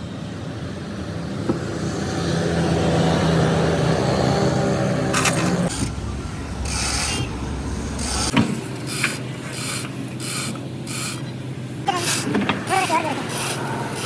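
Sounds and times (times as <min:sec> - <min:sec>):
low engine rumble: 0:00.1 - 0:14.0.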